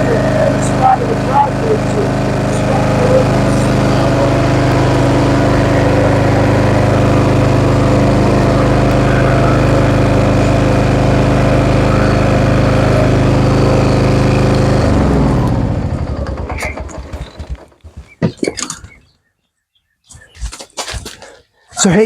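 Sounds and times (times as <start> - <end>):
mower engine running: 0.0 - 17.8.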